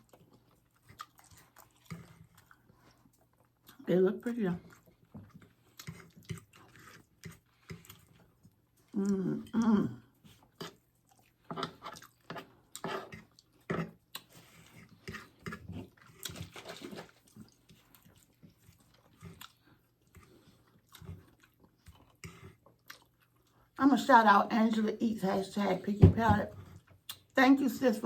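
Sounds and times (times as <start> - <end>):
chewing crunchy food: 0.0 - 3.9, 4.6 - 23.8.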